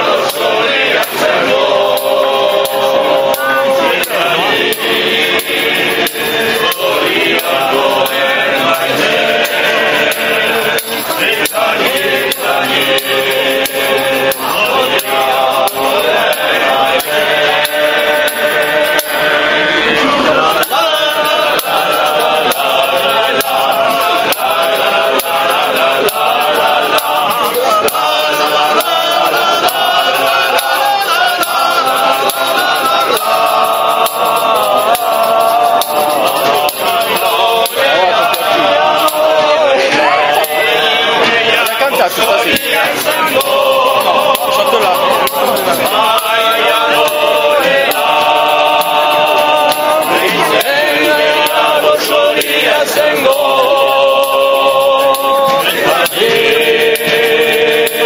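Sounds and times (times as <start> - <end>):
men singing together: 0.0 - 58.0
tambourine beating: 0.0 - 58.0.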